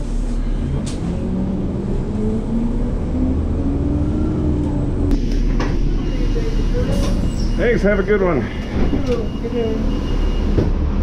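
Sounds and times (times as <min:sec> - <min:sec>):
bus drivetrain rumble and whine: 0:00.0 - 0:11.0.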